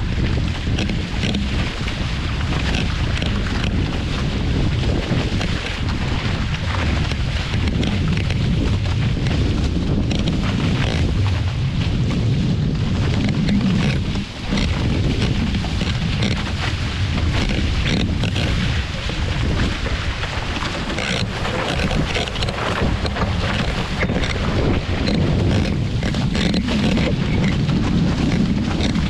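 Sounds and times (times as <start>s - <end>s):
rushing water: 0.0s - 29.0s
wind buffeting microphone: 0.0s - 29.0s.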